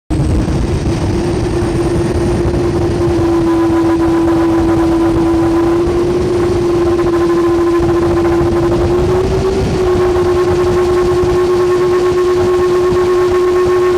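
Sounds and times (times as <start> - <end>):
jet engines whining: 0.1 - 13.9.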